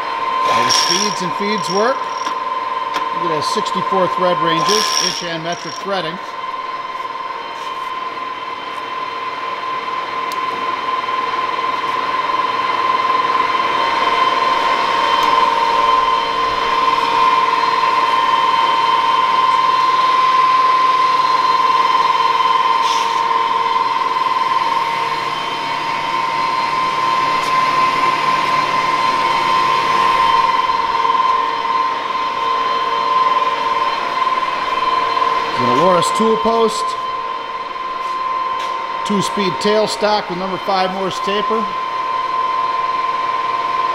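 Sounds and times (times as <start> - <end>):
lathe running with geared whine: 0.0 - 43.9.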